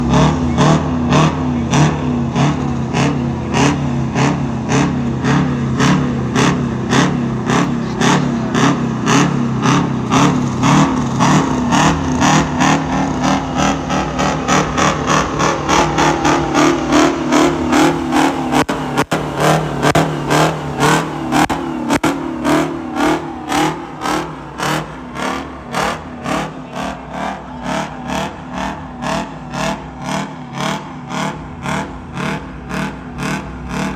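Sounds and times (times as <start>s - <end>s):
truck engine pulsing: 0.0s - 33.9s.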